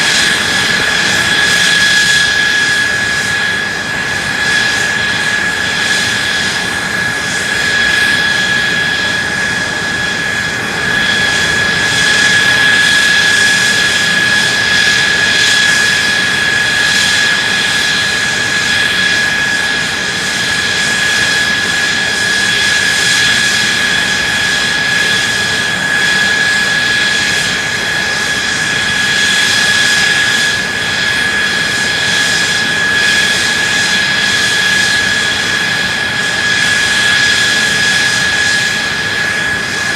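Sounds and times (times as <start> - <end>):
jet engine roaring with whine: 0.0 - 39.9.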